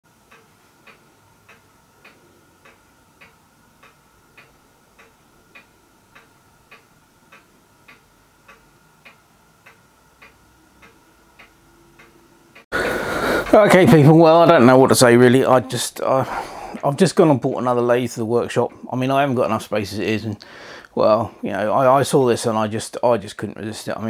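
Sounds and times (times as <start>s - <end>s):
even ticking: 0.1s - 21.5s
faint steady hum: 0.1s - 24.0s.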